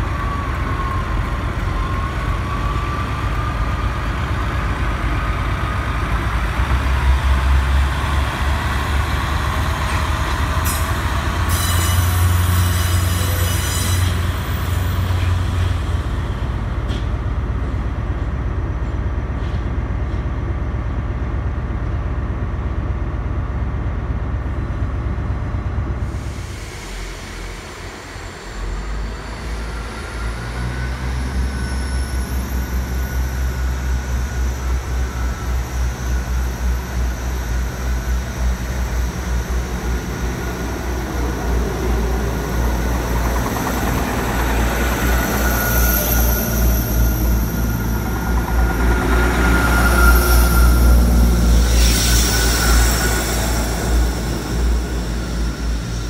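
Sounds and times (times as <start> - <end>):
train wheels squealing: 0.0 - 6.4, 7.0 - 17.2, 26.0 - 56.0
diesel train engine rumbling: 0.0 - 56.0.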